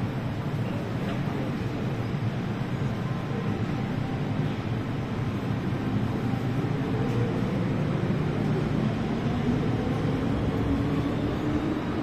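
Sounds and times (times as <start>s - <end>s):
train rumbling out of station: 0.0s - 12.0s.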